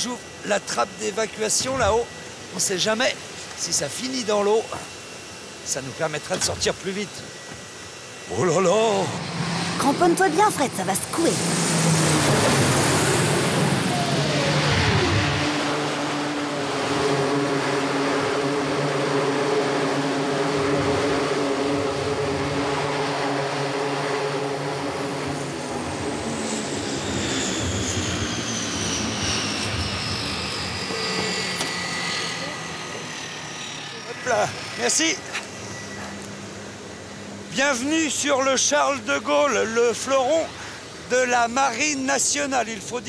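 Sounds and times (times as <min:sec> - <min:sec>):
high turbine whine: 0:00.0 - 0:43.0
propeller drone: 0:00.0 - 0:43.0
turboprop aircraft landing rush: 0:00.0 - 0:43.0.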